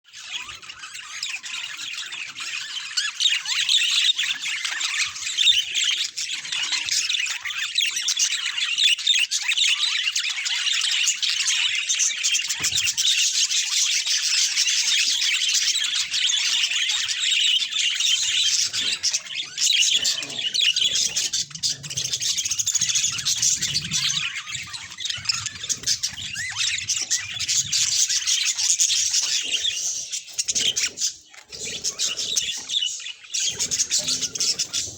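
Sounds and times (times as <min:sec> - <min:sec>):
budgies chattering and warbling: 0:00.0 - 0:34.9.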